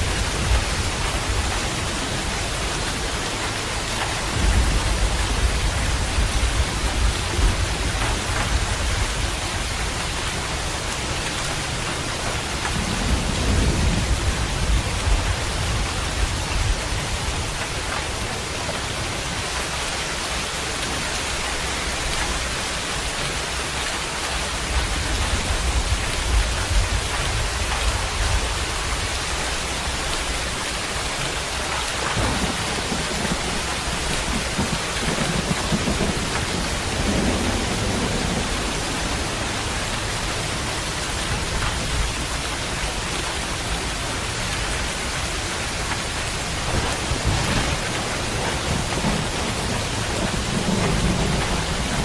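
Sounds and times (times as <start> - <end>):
thunder rumbling: 0.0 - 19.3, 24.6 - 52.0
heavy rain: 0.0 - 52.0.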